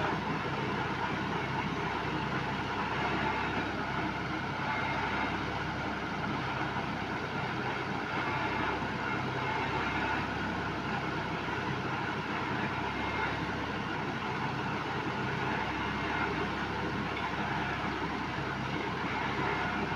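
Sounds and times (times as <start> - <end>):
engine running steadily: 0.0 - 19.9.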